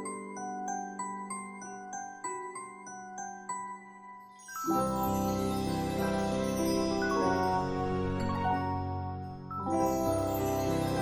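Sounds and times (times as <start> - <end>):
bell-like melody: 0.0 - 11.0
fuller music arrangement: 0.0 - 11.0.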